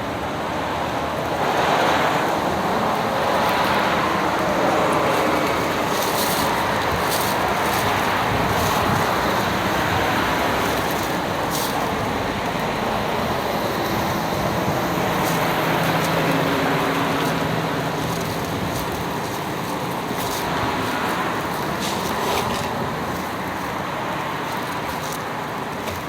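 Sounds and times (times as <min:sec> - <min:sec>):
faint low engine hum: 0:00.0 - 0:26.0
steady rushing noise: 0:00.0 - 0:26.0.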